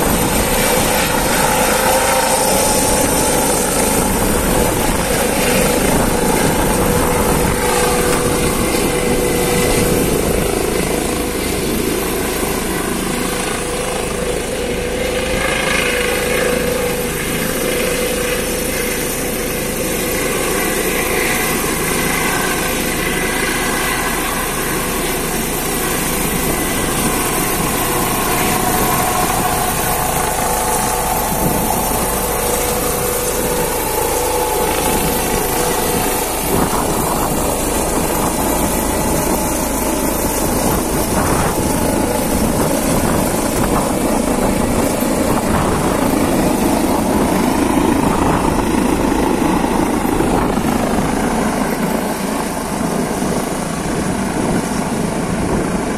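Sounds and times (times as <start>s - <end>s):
helicopter rotor and turbine: 0.0s - 55.9s
high turbine whine: 0.0s - 55.9s.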